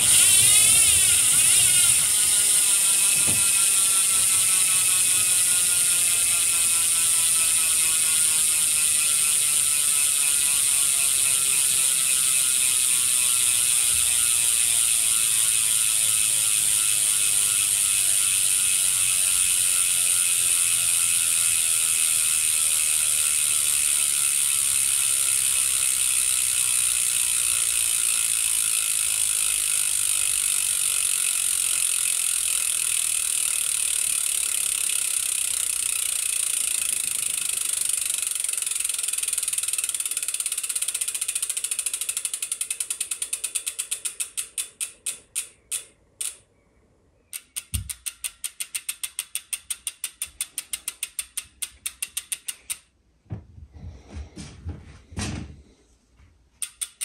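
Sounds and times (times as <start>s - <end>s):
bicycle freehub ratchet clicking: 0.0s - 46.6s, 47.2s - 52.9s, 56.6s - 57.0s.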